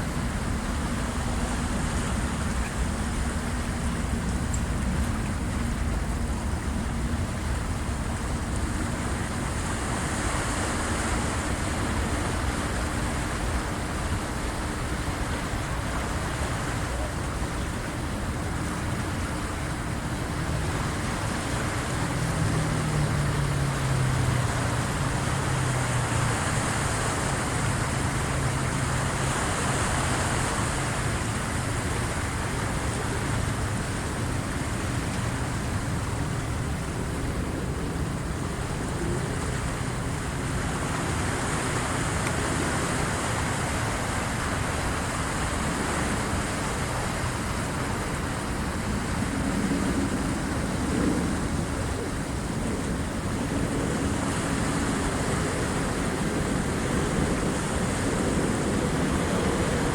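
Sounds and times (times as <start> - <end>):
low engine drone: 0.0 - 59.9
waves washing in: 0.0 - 59.9.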